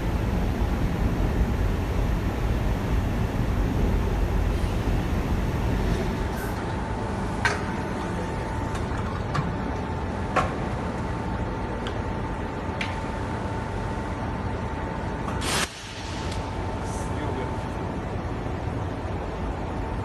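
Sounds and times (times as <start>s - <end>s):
production machinery running: 0.0s - 20.0s
steady hum-like tone: 0.0s - 20.0s.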